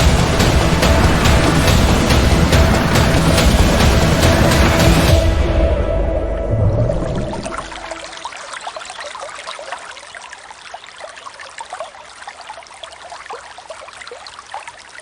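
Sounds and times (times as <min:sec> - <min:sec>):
water trickling and bubbling: 0:00.0 - 0:15.0.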